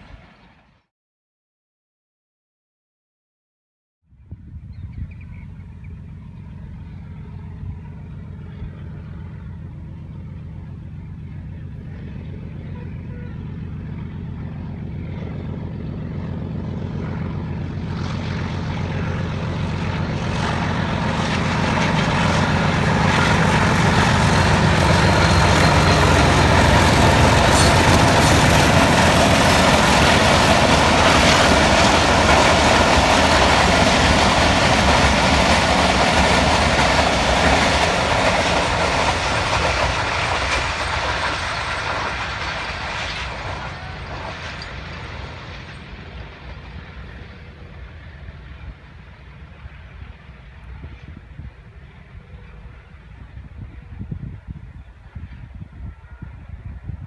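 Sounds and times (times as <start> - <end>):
diesel locomotive engine hum: 0.0 - 0.7, 4.2 - 57.0
train running past: 4.4 - 57.0.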